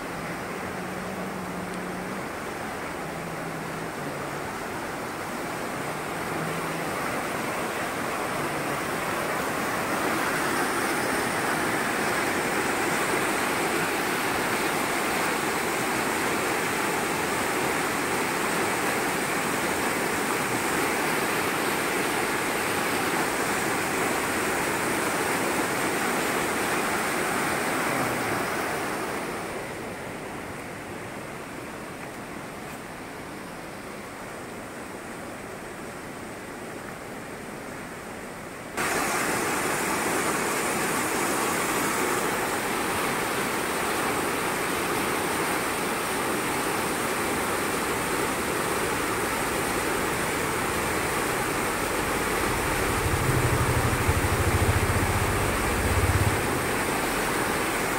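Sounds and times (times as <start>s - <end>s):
rushing stream water: 0.0s - 57.9s.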